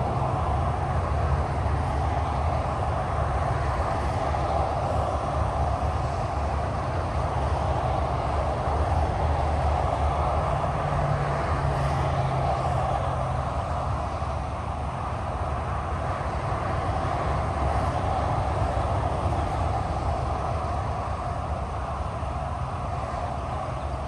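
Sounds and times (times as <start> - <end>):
highway traffic roar: 0.0 - 24.0
low engine drone: 0.0 - 24.0.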